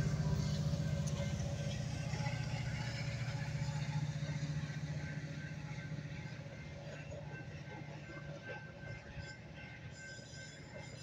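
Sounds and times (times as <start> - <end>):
diesel locomotive engine drone: 0.0 - 11.0
train coaches rolling by: 0.0 - 11.0.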